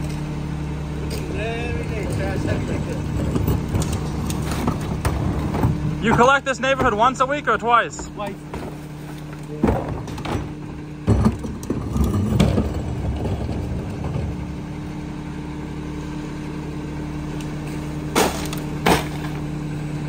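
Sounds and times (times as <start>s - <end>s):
garbage truck engine idling: 0.0s - 20.0s.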